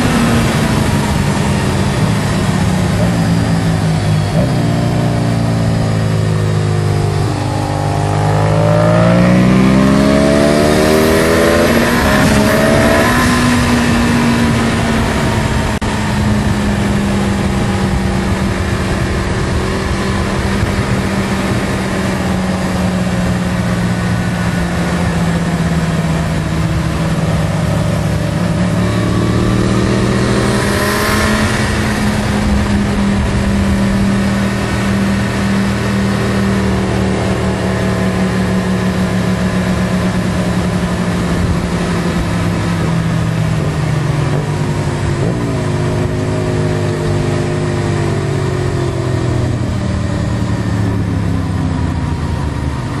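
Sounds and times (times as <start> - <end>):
motorcycle engine at high revs: 0.0 - 53.0
wind rush: 0.0 - 53.0.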